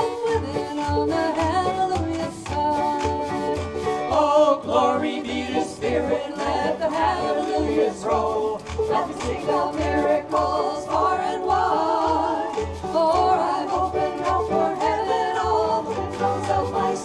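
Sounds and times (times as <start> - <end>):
country gospel band playing: 0.0 - 17.0.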